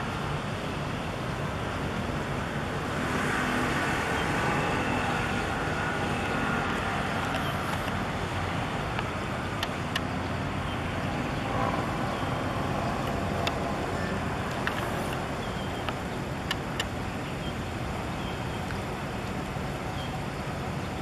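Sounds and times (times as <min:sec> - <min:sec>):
distant engines rumbling: 0:00.0 - 0:21.0.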